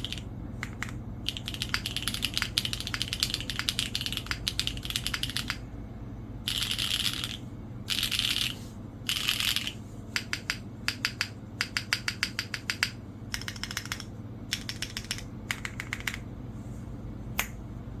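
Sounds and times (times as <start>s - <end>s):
mechanical keyboard typing: 0.0s - 5.6s, 6.5s - 16.3s.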